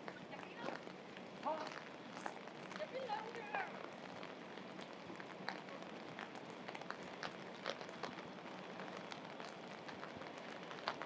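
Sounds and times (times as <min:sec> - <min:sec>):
raindrops striking close by: 0:00.0 - 0:11.0
steady rainfall: 0:00.0 - 0:11.0.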